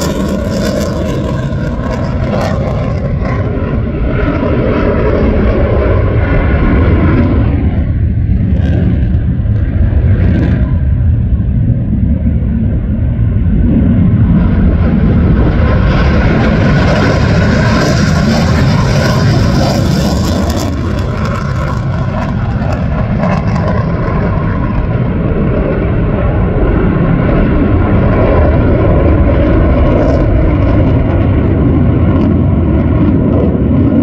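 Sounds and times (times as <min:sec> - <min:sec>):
jet engines rumbling: 0:00.0 - 0:34.0.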